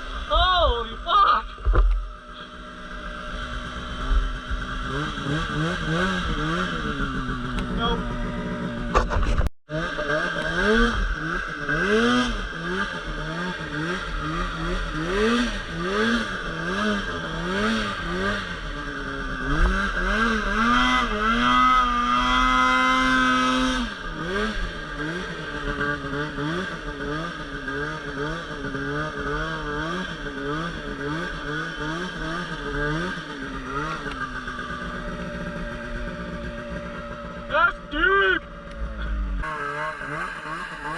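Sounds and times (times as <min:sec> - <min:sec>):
snowmobile engine revving: 0:02.2 - 0:40.9.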